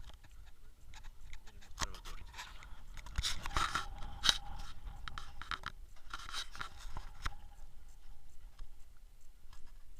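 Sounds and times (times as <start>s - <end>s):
crunches and scrapes: 0.0s - 8.8s.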